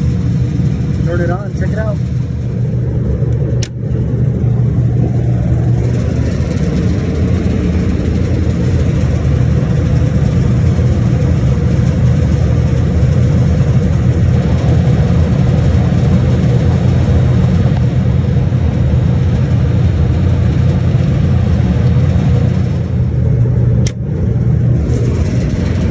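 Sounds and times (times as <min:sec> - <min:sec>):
refrigeration unit humming: 0:00.0 - 0:25.9.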